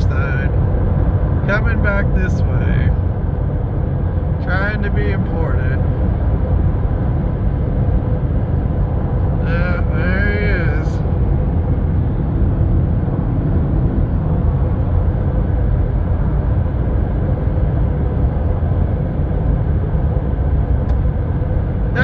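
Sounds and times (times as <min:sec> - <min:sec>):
faint steady hum: 0:00.0 - 0:22.0
vehicle low rumble: 0:00.0 - 0:22.0.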